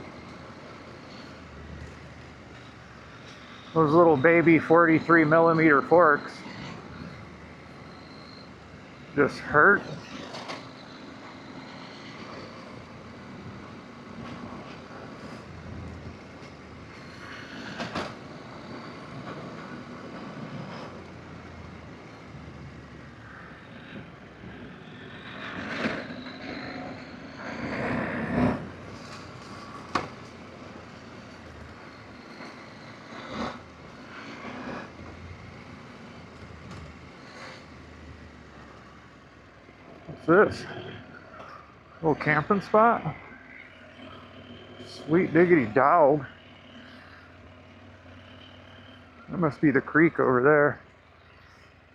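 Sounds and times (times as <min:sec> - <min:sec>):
motorcycle engine: 0:01.2 - 0:51.9.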